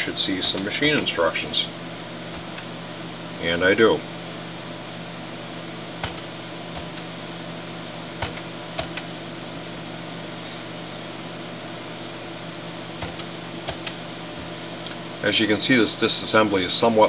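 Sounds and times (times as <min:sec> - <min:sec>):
computer fan hum: 0:00.0 - 0:17.0.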